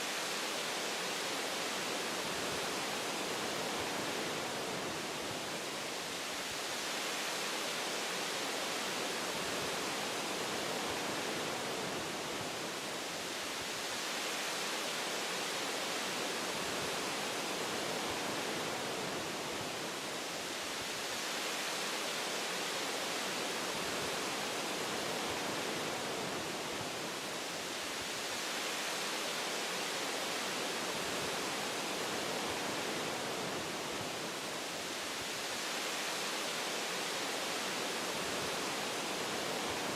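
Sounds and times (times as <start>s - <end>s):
wind through tree leaves: 0.0s - 39.9s.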